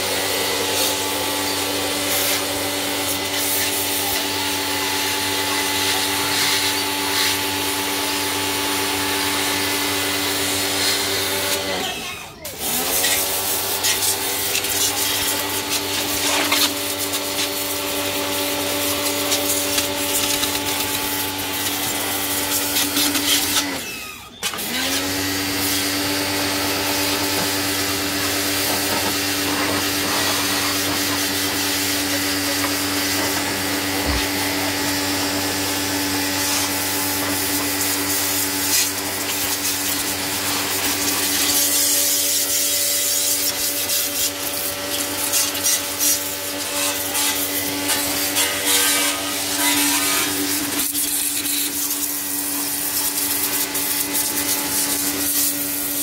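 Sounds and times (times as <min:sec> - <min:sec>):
high-pressure water jet hissing: 0:00.0 - 0:56.0
pressure washer pump hum: 0:00.0 - 0:56.0.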